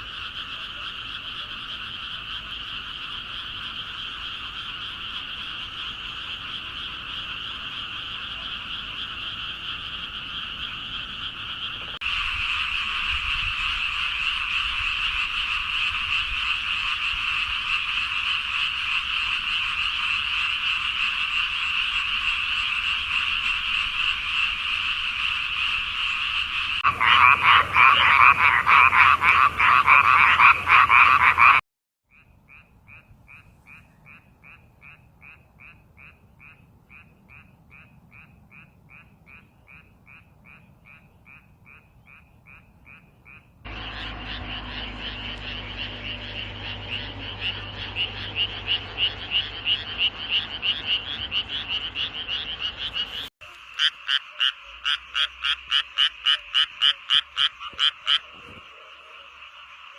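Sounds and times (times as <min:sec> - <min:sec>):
frogs pulsed calls: 0:00.0 - 0:59.9.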